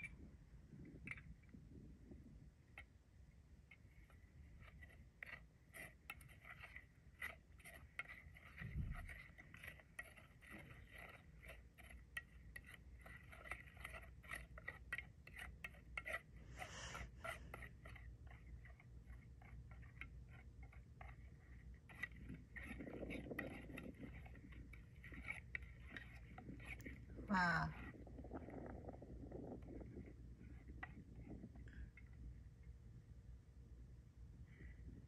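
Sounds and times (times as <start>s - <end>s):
spoon stirring in plastic bowl: 3.6s - 32.4s.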